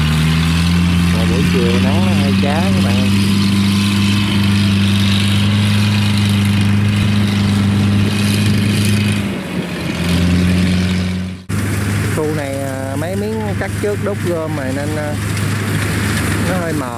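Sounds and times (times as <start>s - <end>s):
farm machine engine humming: 0.0s - 16.9s.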